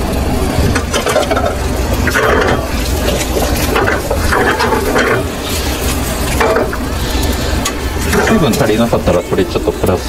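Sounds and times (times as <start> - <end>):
hot water pouring and splashing: 0.0 - 10.0.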